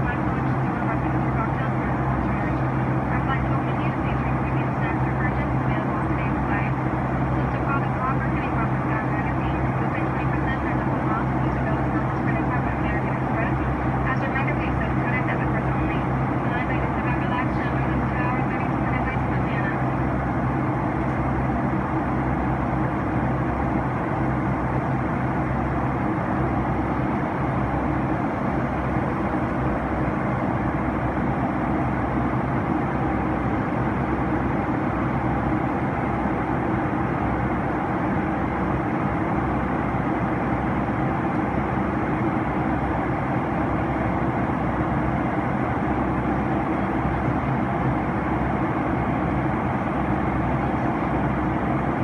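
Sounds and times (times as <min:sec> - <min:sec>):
jet engine drone: 0:00.0 - 0:52.0
steady low hum: 0:00.0 - 0:52.0.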